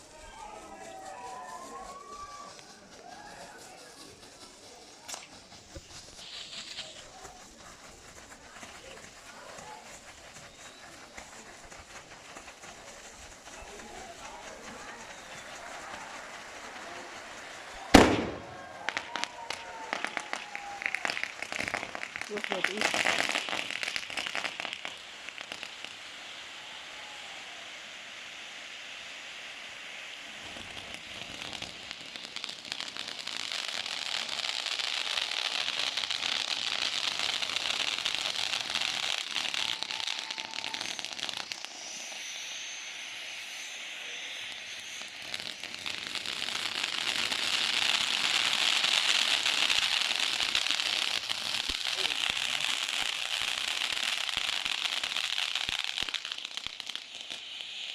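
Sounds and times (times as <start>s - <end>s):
fireworks hissing and crackling: 0.0s - 57.9s.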